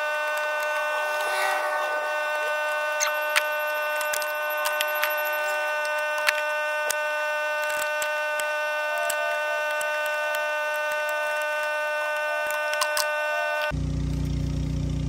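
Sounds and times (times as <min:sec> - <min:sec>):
steady machine drone: 0:00.0 - 0:14.0.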